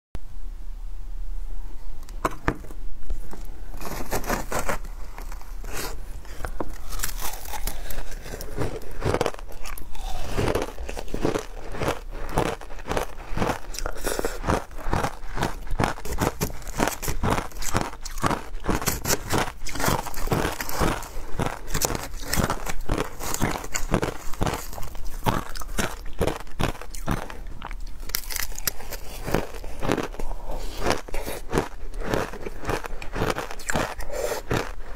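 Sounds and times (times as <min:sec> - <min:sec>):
ice being chewed: 0:03.3 - 0:34.9.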